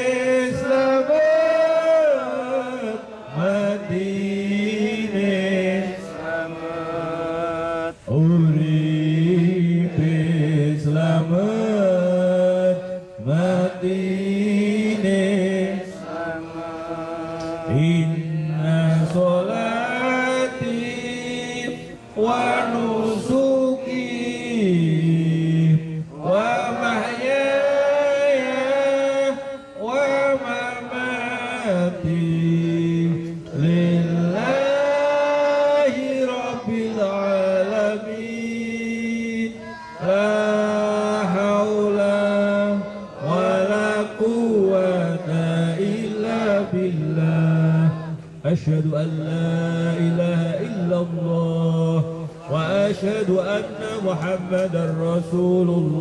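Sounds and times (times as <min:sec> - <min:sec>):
man chanting into microphone: 0:00.0 - 0:56.0.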